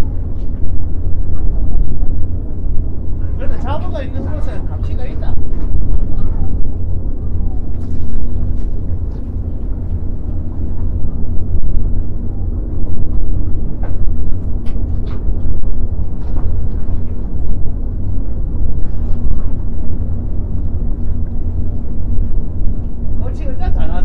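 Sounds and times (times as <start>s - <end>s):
faint steady hum: 0.0s - 24.0s
wind buffeting microphone: 0.0s - 24.0s.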